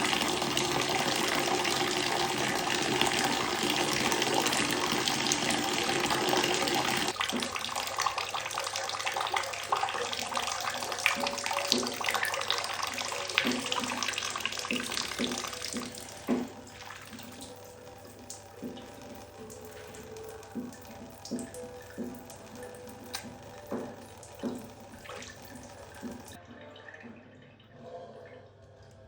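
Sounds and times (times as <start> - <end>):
tap water running and splashing: 0.0 - 26.4
water dripping: 0.0 - 27.4.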